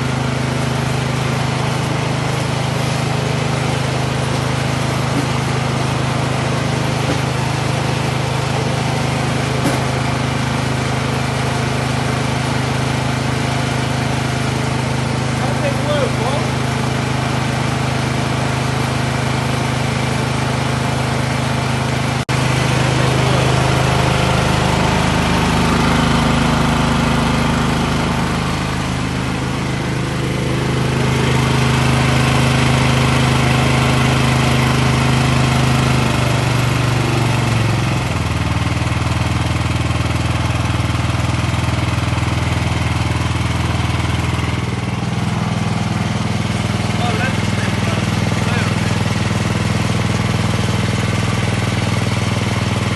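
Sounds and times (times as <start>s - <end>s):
snowblower engine running: 0.0s - 52.9s.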